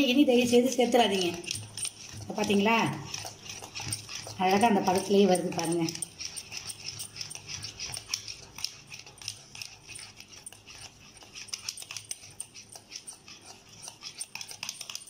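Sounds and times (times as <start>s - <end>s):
wire whisk beating batter: 0.0s - 15.0s.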